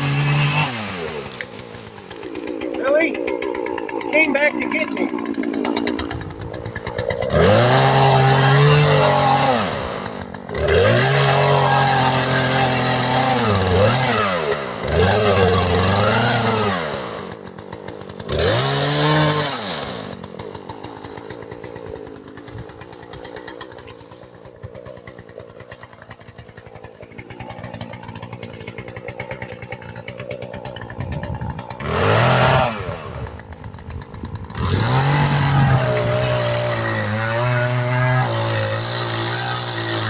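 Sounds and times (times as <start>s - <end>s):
chainsaw revving and idling: 0.0s - 40.0s.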